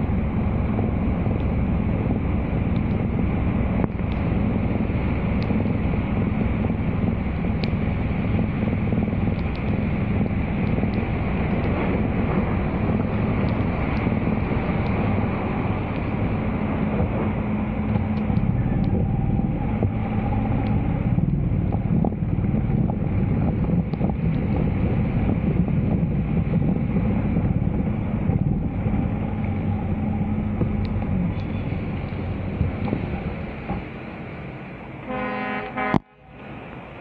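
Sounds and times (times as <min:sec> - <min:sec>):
rain falling on water: 0:00.0 - 0:37.0
wind buffeting microphone: 0:00.0 - 0:37.0.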